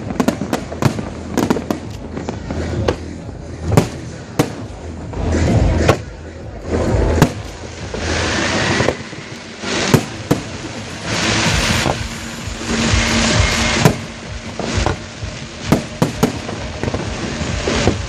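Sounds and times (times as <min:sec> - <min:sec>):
firework crackling: 0:00.0 - 0:18.0
firework shells bursting with bangs: 0:00.0 - 0:18.0.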